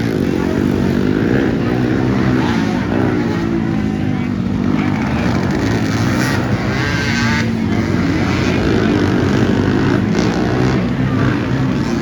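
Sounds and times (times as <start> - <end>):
quad bike engines racing past: 0.0 - 12.0.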